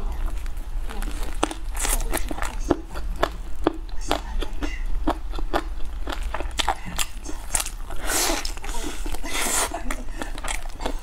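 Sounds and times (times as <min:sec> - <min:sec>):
crunchy chewing of fried chicken: 0:00.1 - 0:11.0.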